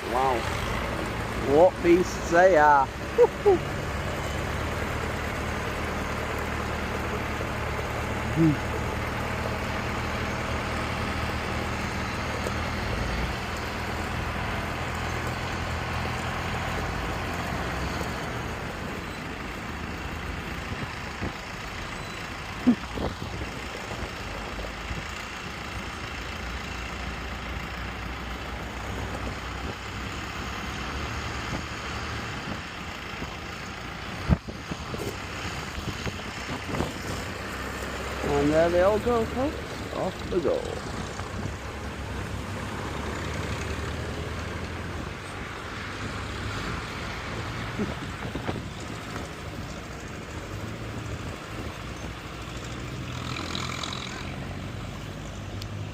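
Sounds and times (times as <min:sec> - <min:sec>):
tractor engines humming: 0:00.0 - 0:55.9.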